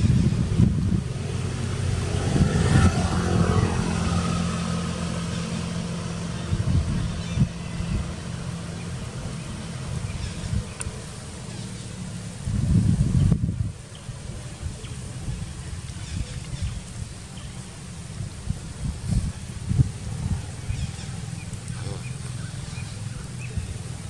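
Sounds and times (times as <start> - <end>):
vehicle engine humming: 0.0 - 24.0
wind on microphone: 0.0 - 24.0.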